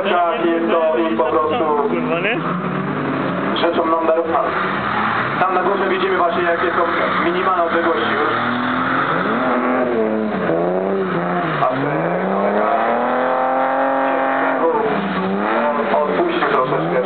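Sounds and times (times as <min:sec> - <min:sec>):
car engine revving hard: 0:01.2 - 0:17.0.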